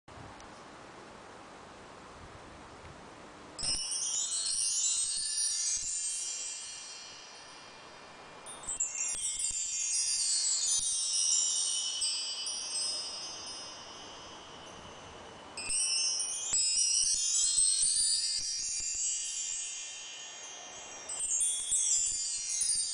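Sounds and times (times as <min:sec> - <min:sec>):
bar chimes ringing: 0:03.6 - 0:22.9.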